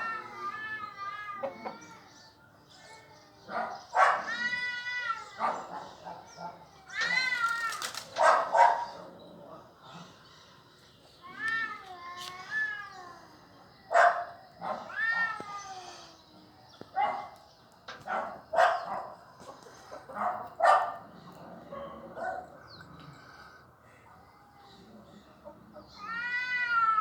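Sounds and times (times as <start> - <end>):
cats yowling and fighting: 0.0 - 9.2, 11.2 - 23.2, 24.7 - 27.0.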